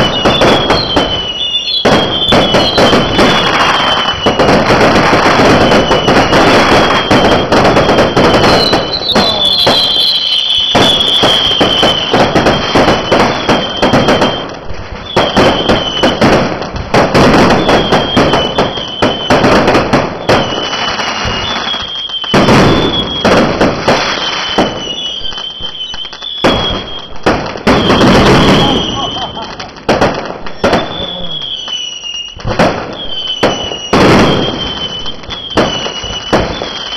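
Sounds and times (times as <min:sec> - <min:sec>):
firework whistles: 0:00.0 - 0:36.9
fireworks crackling and popping: 0:00.0 - 0:36.9.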